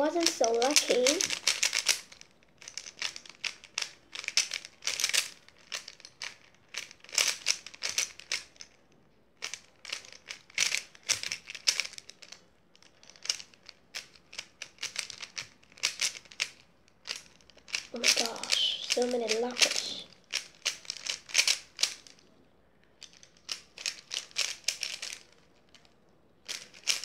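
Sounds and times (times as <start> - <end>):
puzzle cube clicking: 0.0 - 8.8, 9.4 - 22.2, 23.0 - 27.0.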